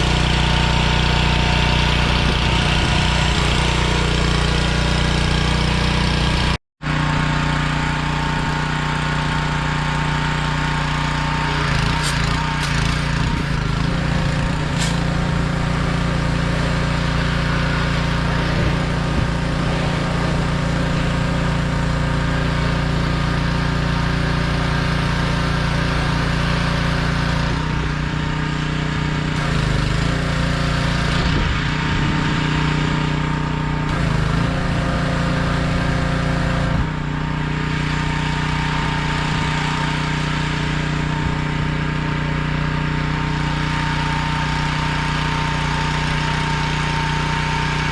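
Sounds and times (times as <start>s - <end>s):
pressure washer engine running: 0.0s - 47.9s.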